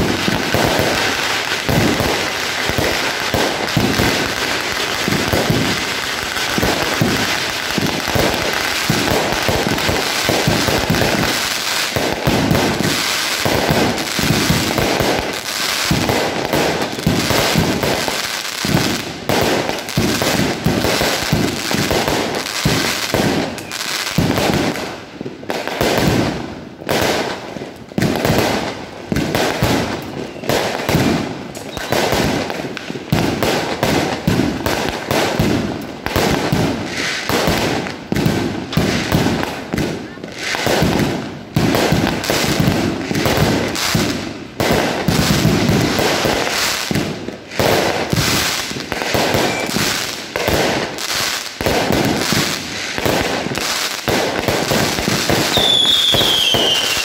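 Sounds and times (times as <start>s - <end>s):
fireworks launching and bursting: 0.0s - 57.0s.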